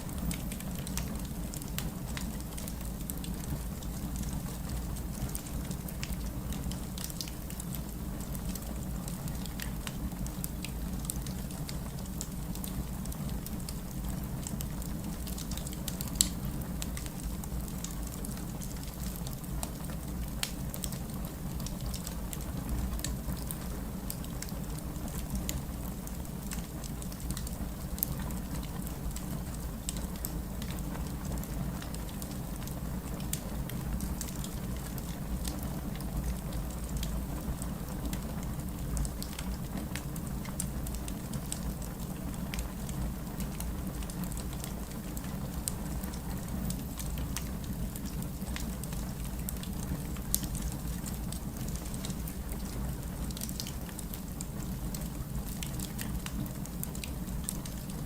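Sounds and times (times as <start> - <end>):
steady rain hiss: 0.0 - 58.0
wood fire crackling: 0.0 - 58.0.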